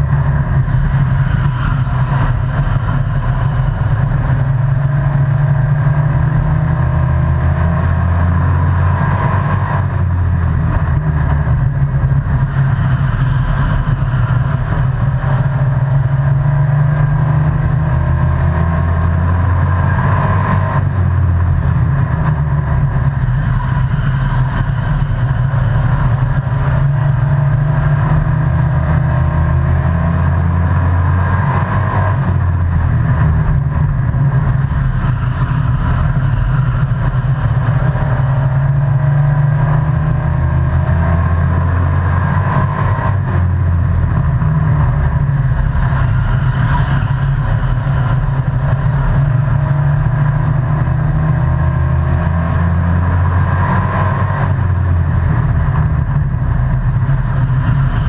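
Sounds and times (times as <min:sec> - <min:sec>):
race truck engine at speed: 0:00.0 - 0:58.0
road and wind noise: 0:00.0 - 0:58.0.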